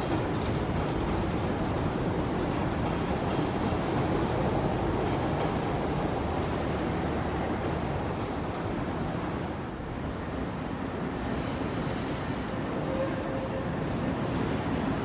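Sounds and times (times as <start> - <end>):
elevated train rumbling: 0.0 - 15.0.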